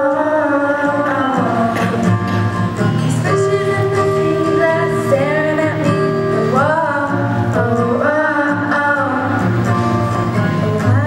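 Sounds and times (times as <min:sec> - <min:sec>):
acoustic guitar: 0:00.0 - 0:11.0
girls singing: 0:00.0 - 0:11.0.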